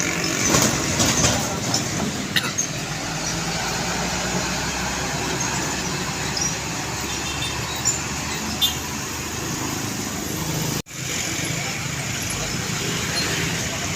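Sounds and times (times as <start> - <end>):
heavy truck engine running: 0.0 - 12.8
road noise: 0.0 - 13.9.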